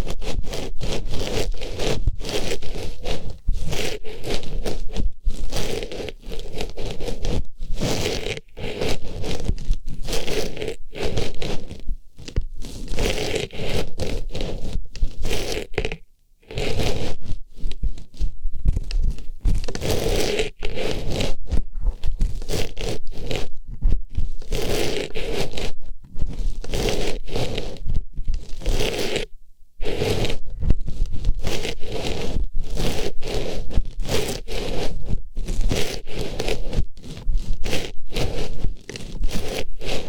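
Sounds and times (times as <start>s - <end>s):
artificial flower rustling on microphone: 0.0s - 40.0s.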